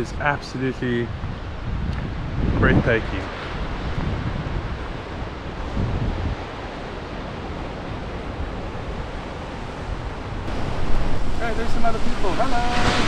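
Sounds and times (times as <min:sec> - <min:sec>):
wind buffeting microphone: 0:00.0 - 0:13.0
surf washing onto rocky shore: 0:02.4 - 0:13.0.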